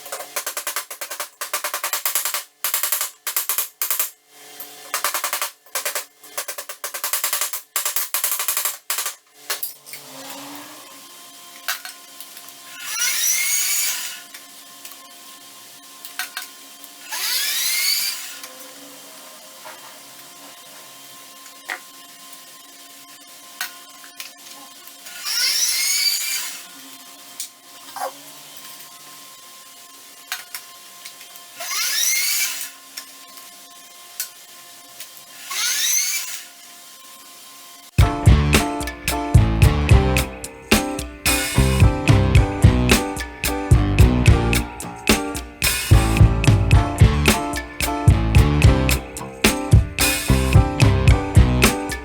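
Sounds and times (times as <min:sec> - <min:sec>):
small power tool whining: 0:09.3 - 0:52.0.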